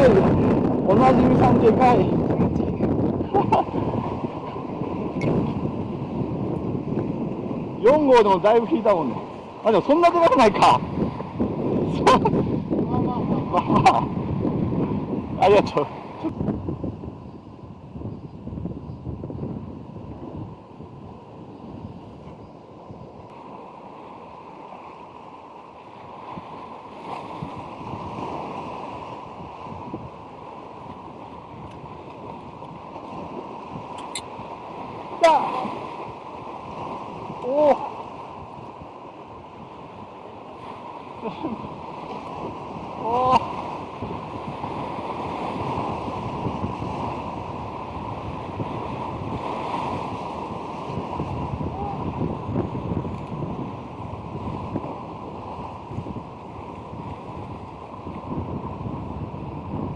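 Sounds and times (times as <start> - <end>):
surf washing: 0.0 - 59.9
wind buffeting microphone: 0.0 - 59.9.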